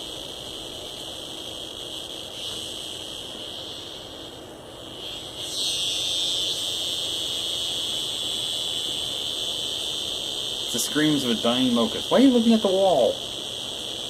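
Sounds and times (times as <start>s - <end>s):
cicada distress buzz: 0.0s - 14.0s.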